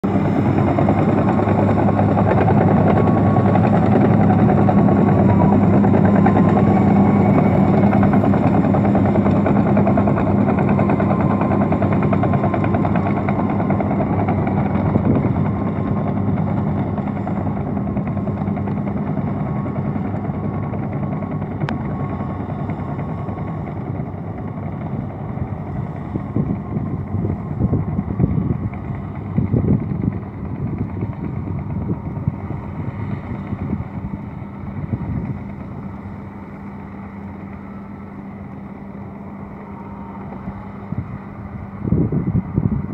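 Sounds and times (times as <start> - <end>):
bulldozer diesel engine under load: 0.0 - 42.9.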